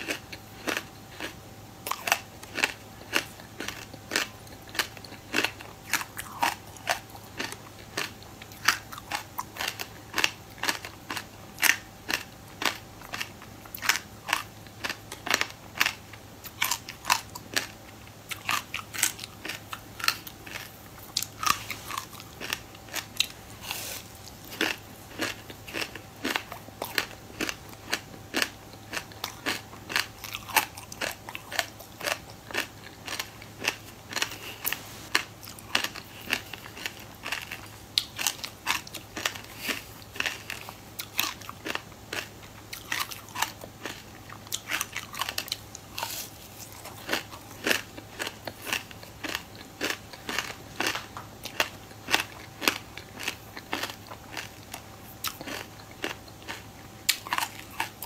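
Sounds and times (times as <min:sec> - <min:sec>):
seeds crunching while chewed: 0:00.0 - 0:58.0.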